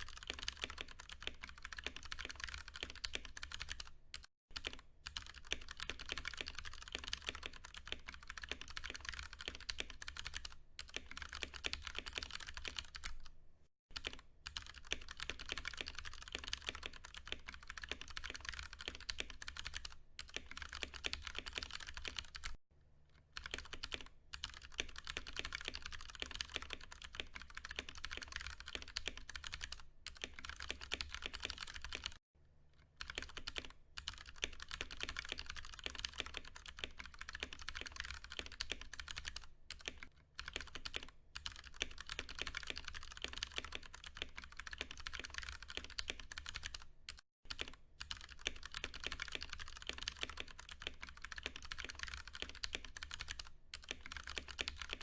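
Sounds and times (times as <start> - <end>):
fast typing on mechanical keyboard: 0.0 - 13.3, 13.9 - 22.6, 23.4 - 32.2, 33.0 - 55.0.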